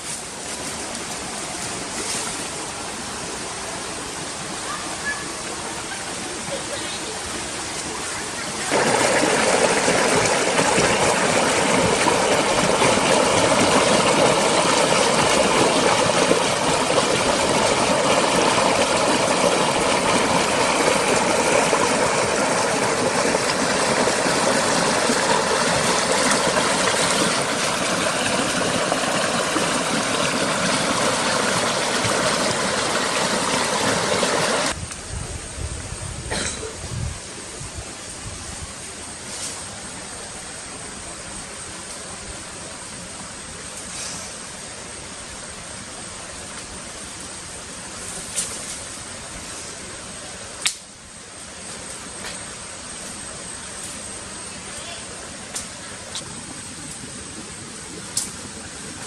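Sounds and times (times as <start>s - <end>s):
water rushing: 0.0s - 34.8s, 37.2s - 59.0s.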